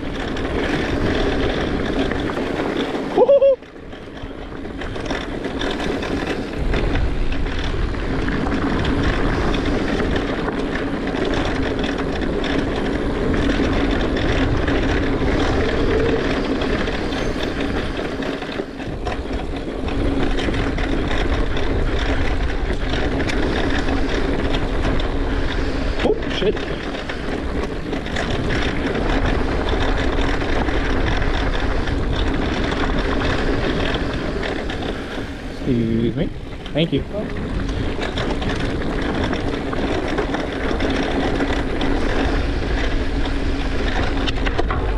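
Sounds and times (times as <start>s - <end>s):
bike tyre and drivetrain rattle: 0.0s - 44.9s
wind rushing over camera: 0.0s - 44.9s.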